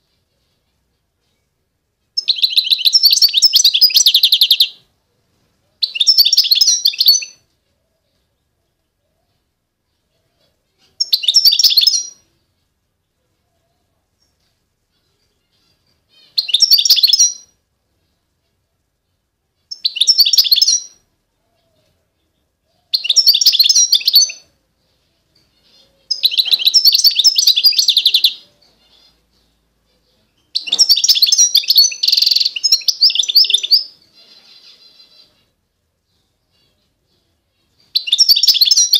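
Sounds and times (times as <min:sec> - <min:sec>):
songbird twittering and trilling: 0:00.0 - 0:18.2, 0:19.0 - 0:38.9.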